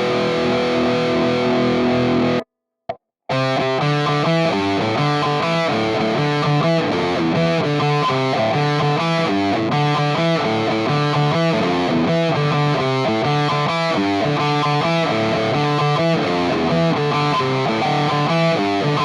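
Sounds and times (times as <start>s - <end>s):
distorted electric guitar chords: 0.0s - 2.5s, 3.3s - 19.0s.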